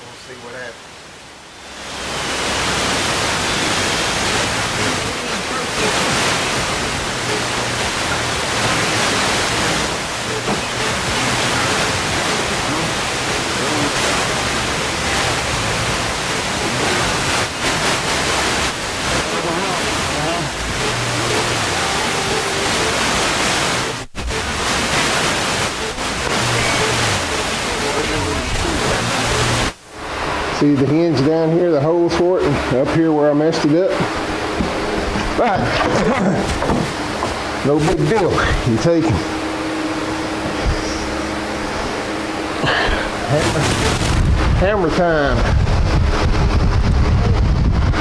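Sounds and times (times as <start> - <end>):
microphone static hiss: 0.0 - 48.0.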